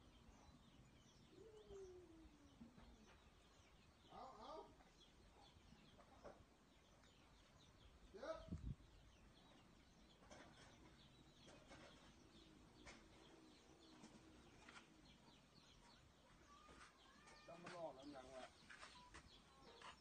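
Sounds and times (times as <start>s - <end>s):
faint bird calls and chirps: 0.0s - 20.0s.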